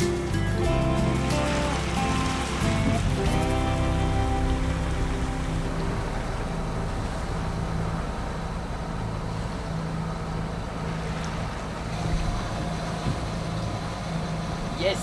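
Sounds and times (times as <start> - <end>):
boat engine hum: 0.0 - 15.0
water noise: 0.0 - 15.0
wind: 0.0 - 15.0.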